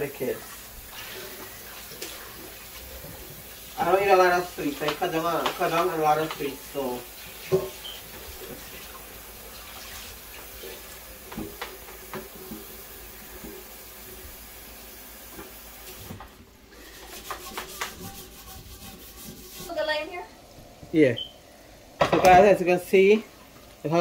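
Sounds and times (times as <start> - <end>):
oil sizzling in a frying pan: 0.0 - 24.0.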